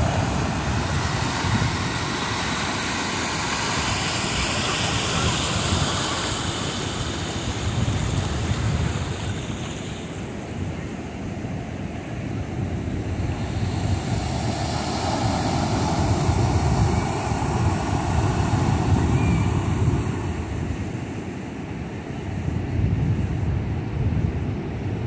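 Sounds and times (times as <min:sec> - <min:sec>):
ocean surf breaking on beach: 0:00.0 - 0:25.0
wind rumbling on microphone: 0:00.0 - 0:25.0.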